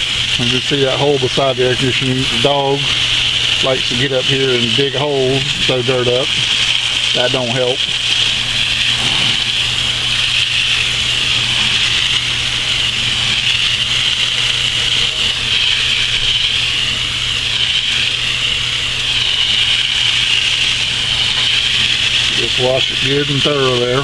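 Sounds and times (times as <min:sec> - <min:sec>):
hose spraying water on metal fins: 0:00.0 - 0:24.0.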